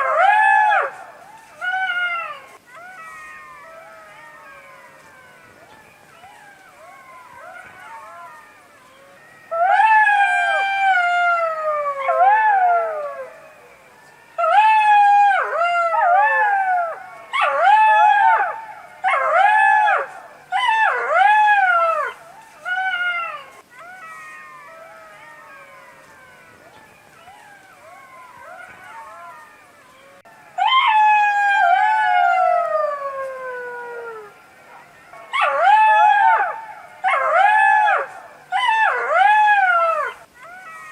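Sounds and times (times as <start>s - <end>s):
jackals howling: 0.0s - 40.9s.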